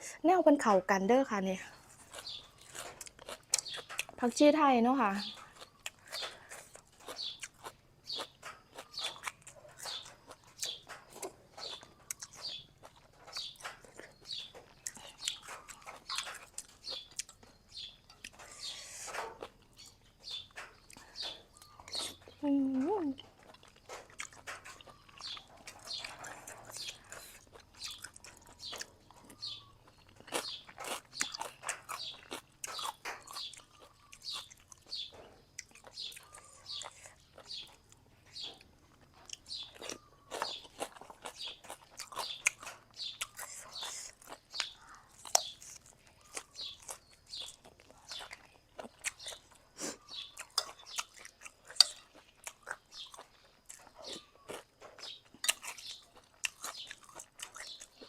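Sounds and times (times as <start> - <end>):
person chewing food: 1.6 - 4.4, 5.3 - 58.0.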